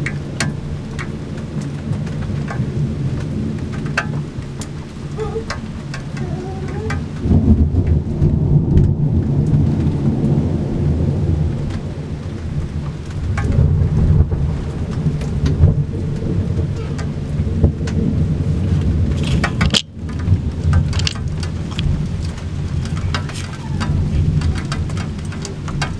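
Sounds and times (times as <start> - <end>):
steady rain: 0.0 - 25.9
thunder rumbling: 0.0 - 25.9.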